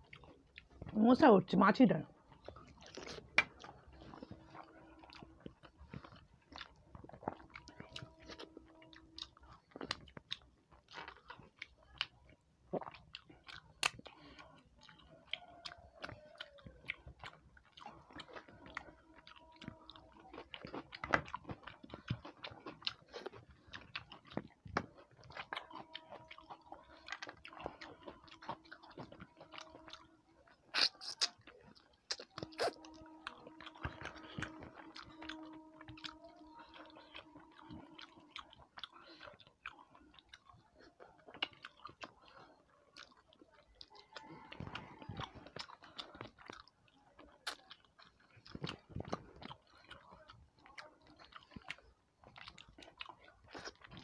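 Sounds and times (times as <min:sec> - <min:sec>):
person chewing with wet smacks: 0:00.0 - 0:54.0.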